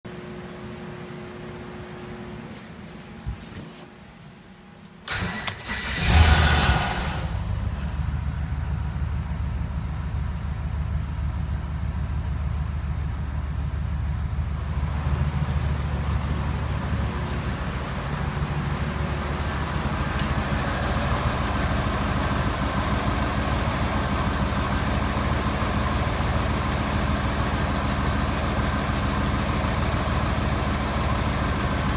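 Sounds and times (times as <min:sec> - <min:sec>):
car engine idling: 0:05.1 - 0:31.9.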